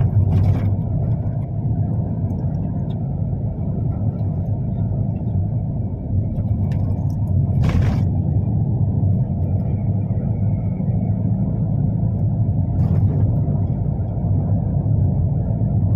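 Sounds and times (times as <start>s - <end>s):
engine and road rumble in car: 0.0s - 15.9s.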